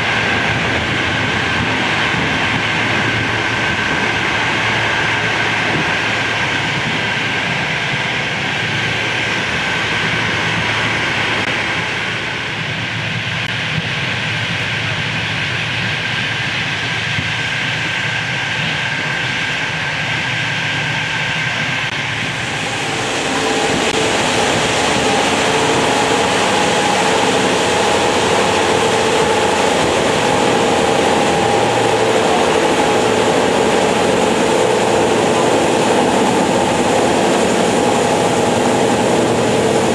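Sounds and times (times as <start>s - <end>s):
train rumble and hiss: 0.0s - 39.9s.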